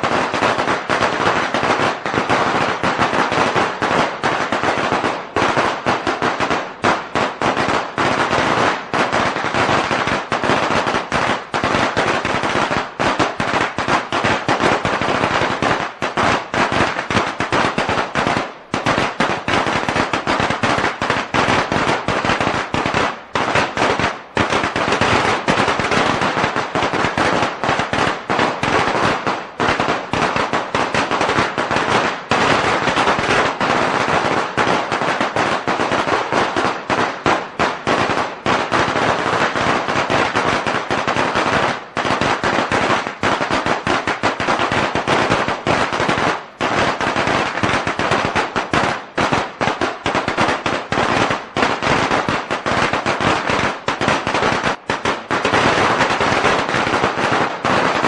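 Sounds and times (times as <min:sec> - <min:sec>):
firecrackers crackling: 0:00.0 - 0:58.0.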